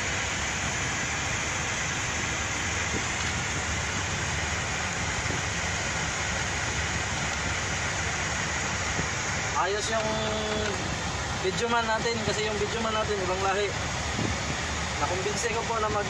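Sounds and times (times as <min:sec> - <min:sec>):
steady hiss and rumble: 0:00.0 - 0:16.0.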